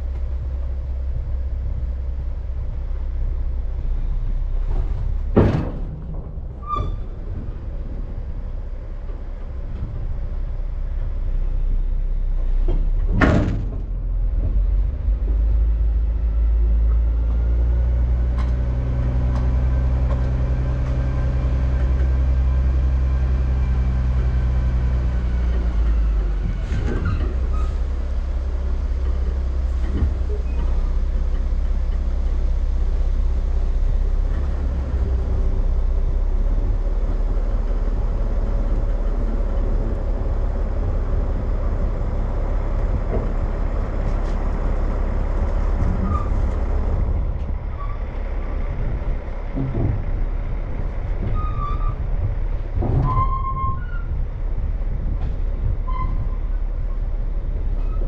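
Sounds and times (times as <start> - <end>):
truck diesel engine running: 0.0 - 53.2.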